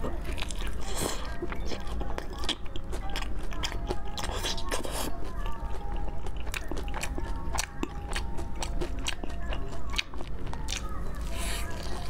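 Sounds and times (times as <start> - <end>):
crunching and chewing fried meat: 0.0 - 12.0.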